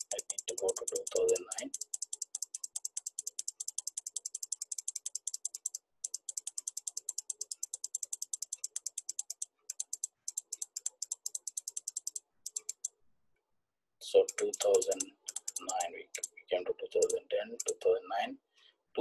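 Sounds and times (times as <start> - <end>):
rapid computer mouse clicks: 0.0 - 13.0, 14.2 - 16.4, 17.0 - 17.8.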